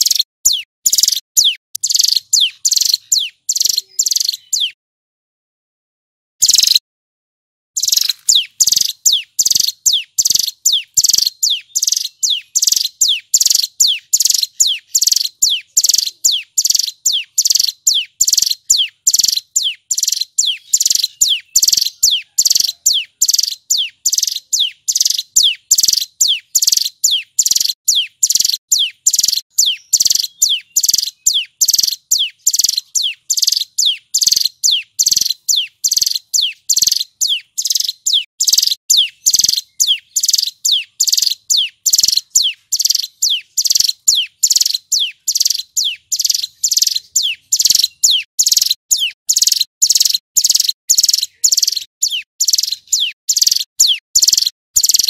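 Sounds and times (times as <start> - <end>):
bird singing high notes: 7.8 - 25.5, 26.2 - 55.0.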